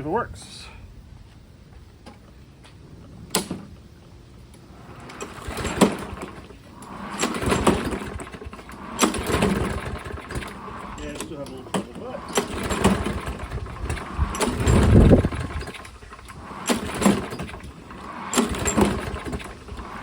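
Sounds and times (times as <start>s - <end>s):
lawn mower engine pull-starting: 2.0s - 20.0s.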